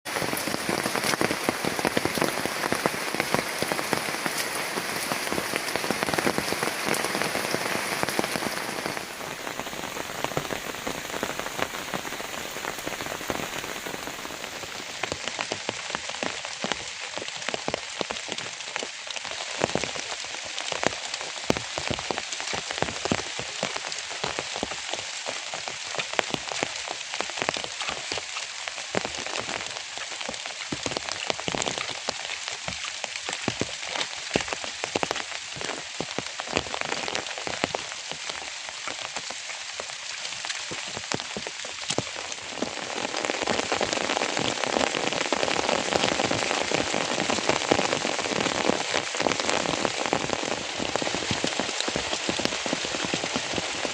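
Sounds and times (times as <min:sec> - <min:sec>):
raindrops striking close by: 0:00.0 - 0:53.9
steady rain: 0:00.0 - 0:53.9.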